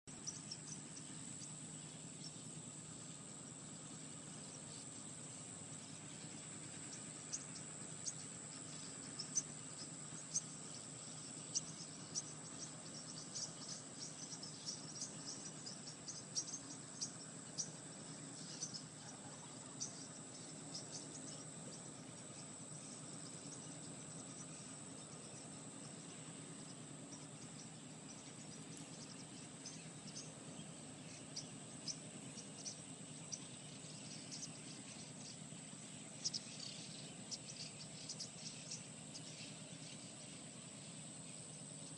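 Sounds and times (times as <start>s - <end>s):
crickets trilling: 0.1s - 41.9s
short cricket chirps: 0.1s - 41.9s.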